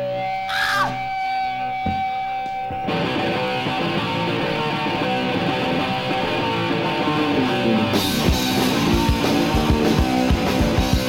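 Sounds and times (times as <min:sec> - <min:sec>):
bass guitar: 0:00.0 - 0:11.0
electric guitar: 0:00.0 - 0:11.0.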